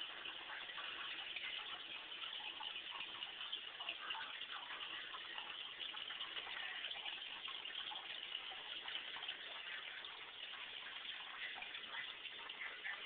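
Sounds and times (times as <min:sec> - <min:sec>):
aquarium water trickling and bubbling: 0:00.0 - 0:13.0.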